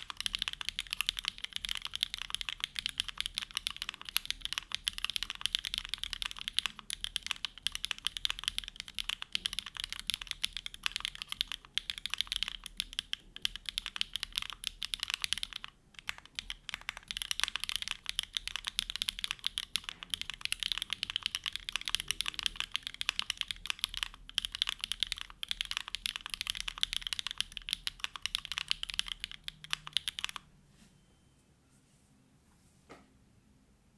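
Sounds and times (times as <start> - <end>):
fast mechanical keyboard typing: 0.0 - 30.5.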